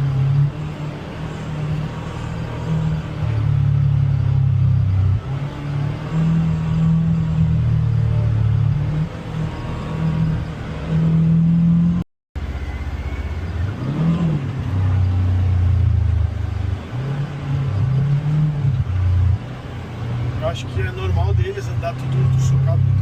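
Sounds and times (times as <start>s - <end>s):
utility vehicle engine revving: 0.0s - 23.0s.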